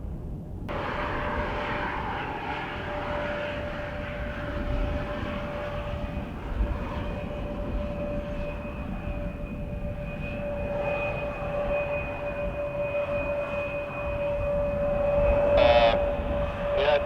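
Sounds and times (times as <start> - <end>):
wind rumble on microphone: 0.0 - 17.0
jet engine whine: 0.3 - 17.0
higher jet whine: 0.7 - 17.0.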